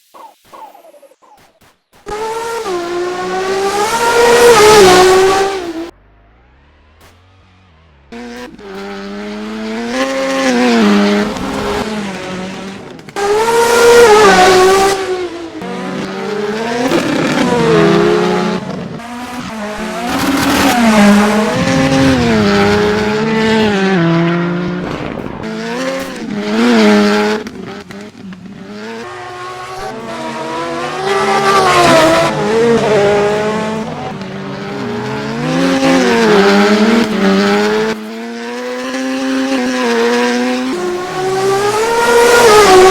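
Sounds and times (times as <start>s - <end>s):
race cars revving past: 2.1s - 42.9s.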